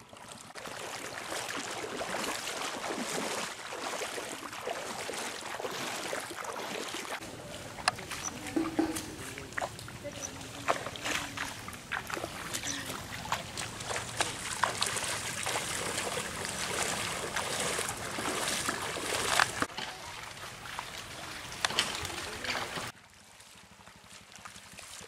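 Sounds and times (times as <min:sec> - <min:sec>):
water washing: 0:00.0 - 0:23.0
footsteps wading through water: 0:00.0 - 0:25.0.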